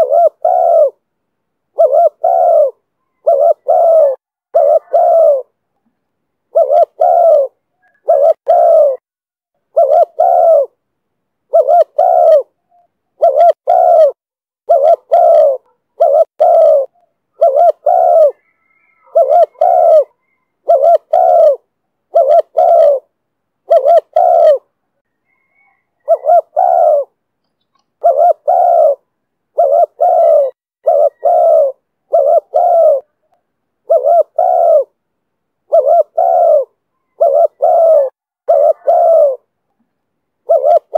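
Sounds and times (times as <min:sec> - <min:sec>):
dove cooing: 0:00.0 - 0:01.0, 0:01.7 - 0:05.6, 0:06.5 - 0:09.0, 0:09.7 - 0:10.8, 0:11.5 - 0:35.0, 0:35.6 - 0:39.5, 0:40.4 - 0:40.9.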